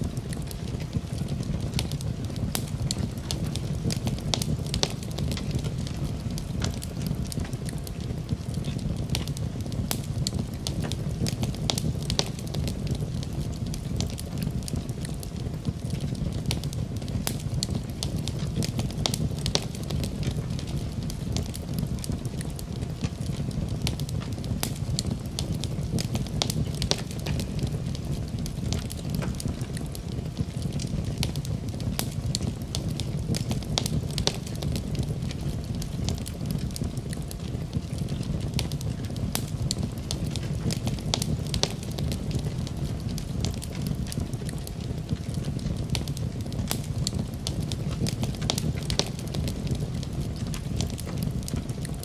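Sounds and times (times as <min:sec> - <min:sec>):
fire flames rumbling: 0:00.0 - 0:52.0
wood crackling and popping: 0:00.0 - 0:52.0.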